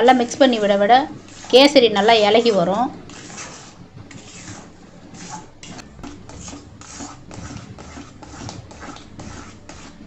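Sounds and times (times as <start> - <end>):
metal spoon scraping a pan: 0.3 - 10.0.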